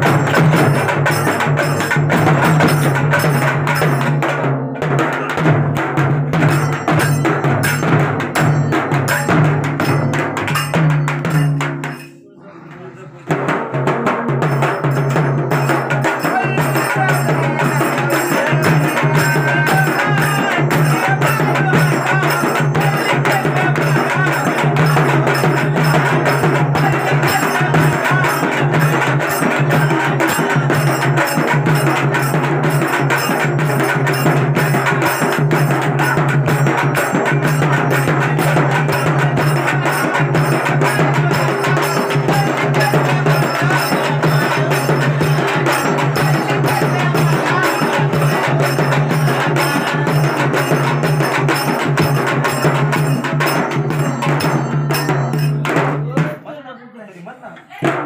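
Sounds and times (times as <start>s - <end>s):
hand drums beaten fast: 0.0s - 12.2s, 13.2s - 56.5s, 57.8s - 58.0s.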